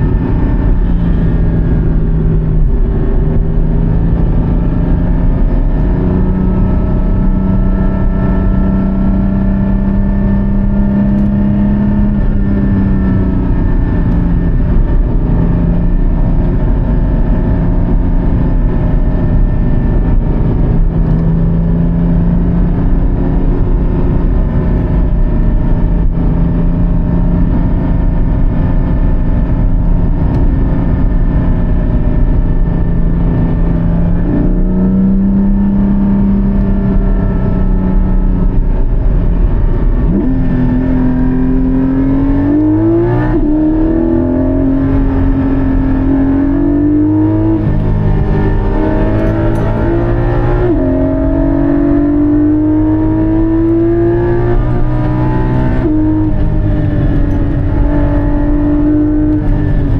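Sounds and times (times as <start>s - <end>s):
car engine running hard: 0.0s - 59.9s
road and wind rumble: 0.0s - 59.9s.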